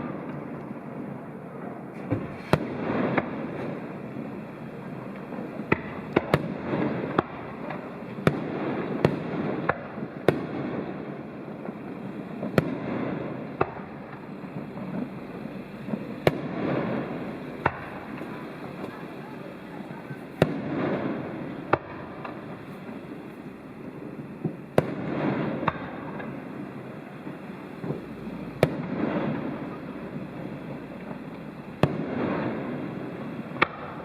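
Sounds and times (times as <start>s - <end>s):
fireworks exploding: 0.0s - 34.0s
noisy hiss and rumble: 0.0s - 34.0s.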